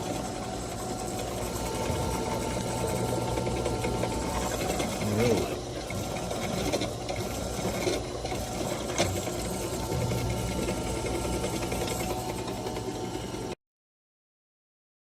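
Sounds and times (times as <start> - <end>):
drill press running: 0.0 - 13.6.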